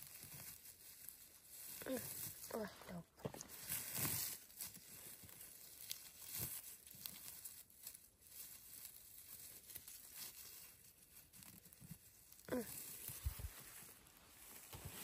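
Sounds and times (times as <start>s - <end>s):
rustling through forest undergrowth: 0.0s - 15.0s.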